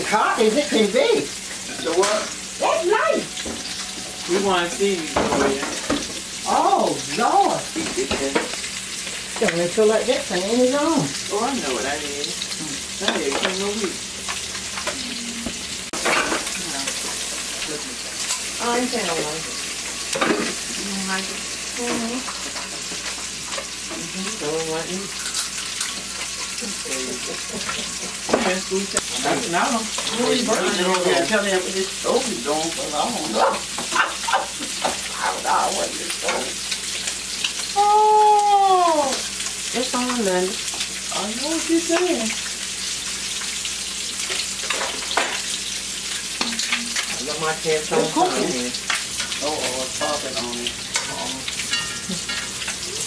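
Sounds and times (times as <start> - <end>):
crab meat sizzling in skillets: 0.0 - 53.0.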